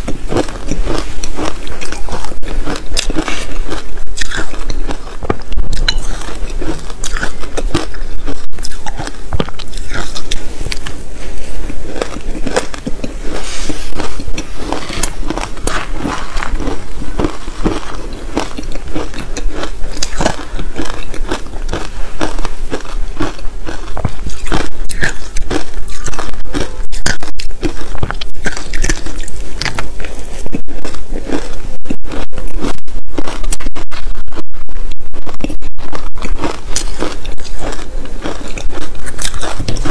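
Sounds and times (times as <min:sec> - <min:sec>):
chewing crunchy shaved ice: 0:00.0 - 0:39.9.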